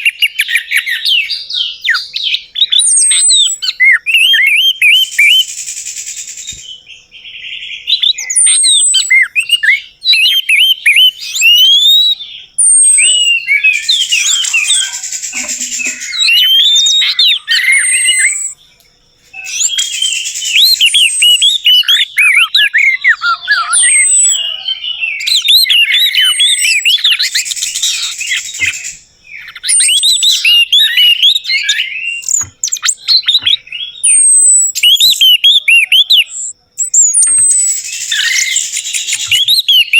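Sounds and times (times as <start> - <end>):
thrush singing whistled song: 0.0 - 39.9.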